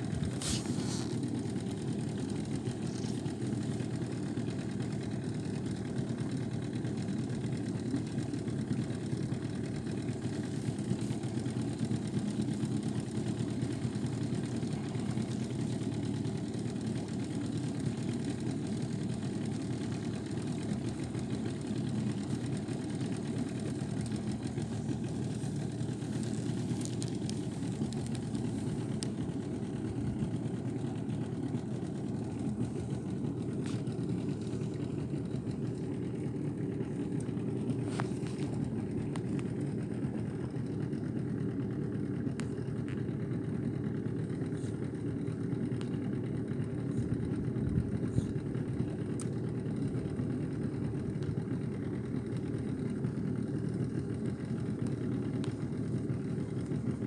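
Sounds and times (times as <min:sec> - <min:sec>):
outboard motor droning: 0:00.0 - 0:57.0.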